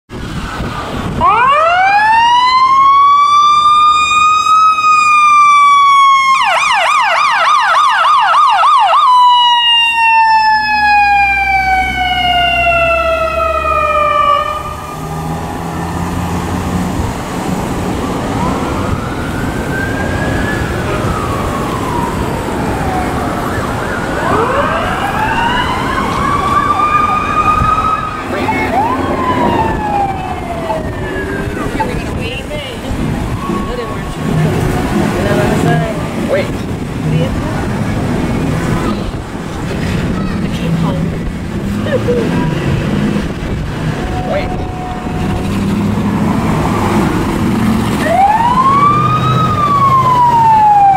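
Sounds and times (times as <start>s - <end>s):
distant sirens: 0.1s - 50.9s
siren wailing and yelping: 1.2s - 15.3s, 18.0s - 35.9s, 41.9s - 50.9s.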